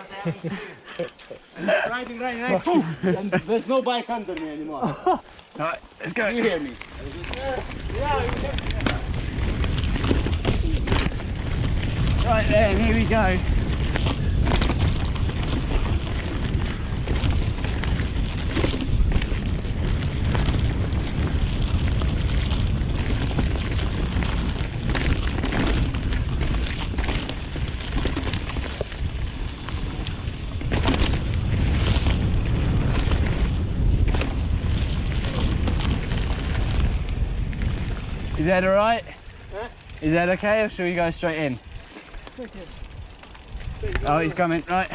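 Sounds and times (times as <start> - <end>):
tyres rumbling over dirt: 6.1 - 44.9
wind buffeting microphone: 6.4 - 44.9
bike rattling and knocking: 6.5 - 44.9.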